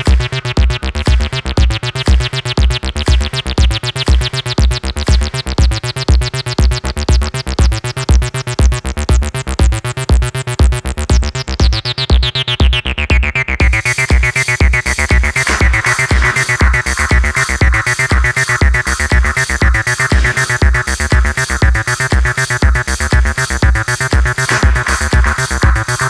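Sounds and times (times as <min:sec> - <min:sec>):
electronic dance music: 0:00.0 - 0:26.0.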